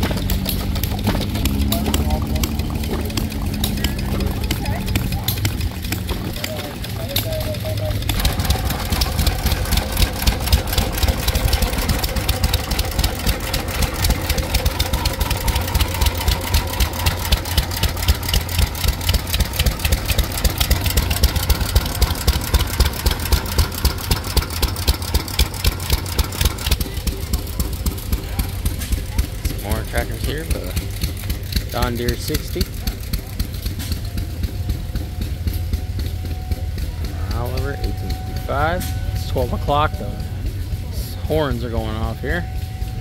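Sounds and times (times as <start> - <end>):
stationary gas engines running: 0.0 - 43.0.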